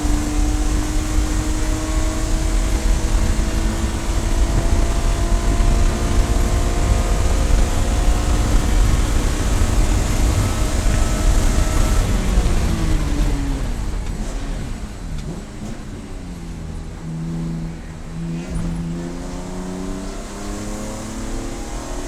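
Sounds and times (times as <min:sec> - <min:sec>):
race car engine: 0:00.0 - 0:22.0
wind and road noise: 0:00.0 - 0:22.0.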